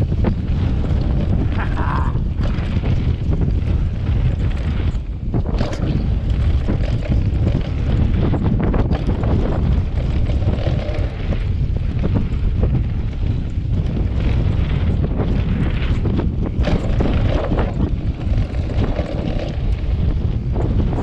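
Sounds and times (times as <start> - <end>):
bike clicks and rattles: 0.0 - 21.0
tyres rumbling on gravel trail: 0.0 - 21.0
wind buffeting microphone: 0.0 - 21.0.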